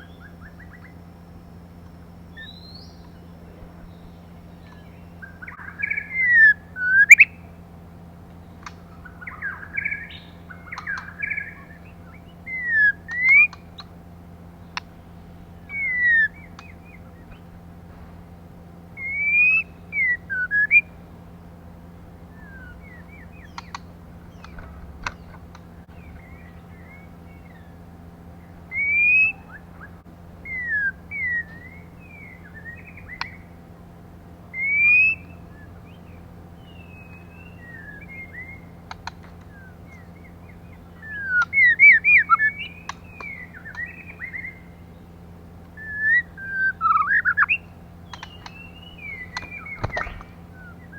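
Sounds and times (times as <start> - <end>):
bird whistled calls: 0.0 - 7.6, 8.6 - 14.0, 15.5 - 17.5, 18.9 - 21.0, 22.3 - 33.6, 34.5 - 50.9.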